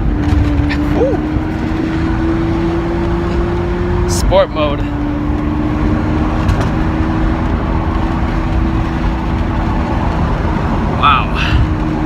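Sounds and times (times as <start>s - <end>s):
car engine humming: 0.0s - 12.0s
road noise: 0.0s - 12.0s.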